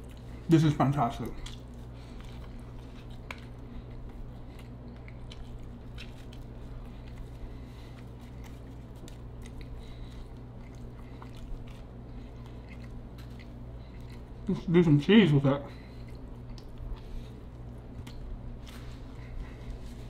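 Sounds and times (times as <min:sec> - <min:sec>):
person chewing pizza: 0:00.0 - 0:20.0
steady low hum: 0:00.0 - 0:20.0.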